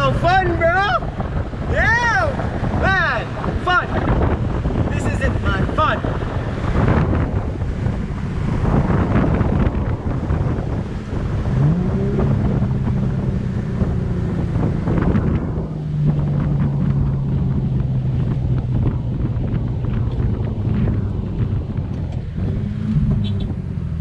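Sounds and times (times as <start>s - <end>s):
car engine running: 0.0s - 24.0s
wind buffeting on microphone: 0.0s - 24.0s.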